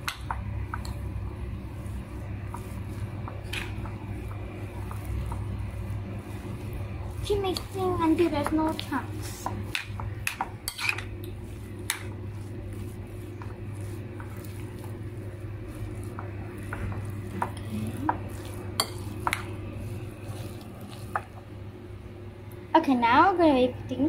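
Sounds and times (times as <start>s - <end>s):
metal spoon stirring in bowl: 0.0s - 21.5s.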